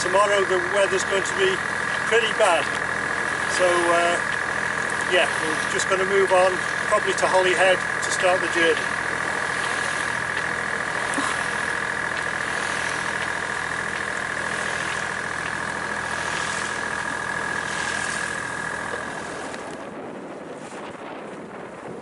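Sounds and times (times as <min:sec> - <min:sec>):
boat engine hum: 0:00.0 - 0:22.0
steady high whine: 0:00.0 - 0:22.0.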